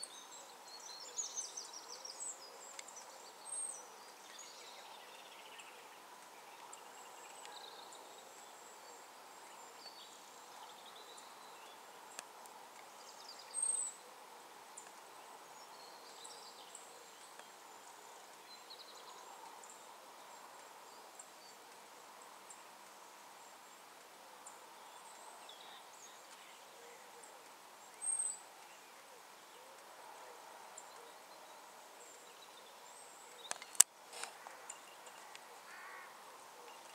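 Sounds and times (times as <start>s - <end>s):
faint bird chirps: 0.0s - 36.9s.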